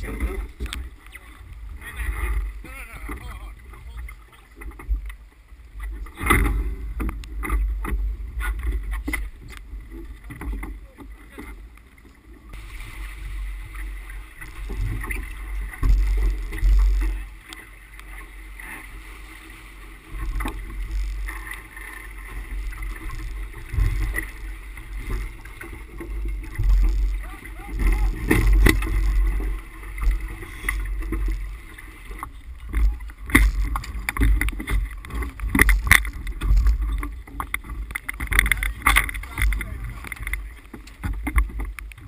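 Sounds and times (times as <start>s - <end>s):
water rushing past hull: 0.0s - 42.0s.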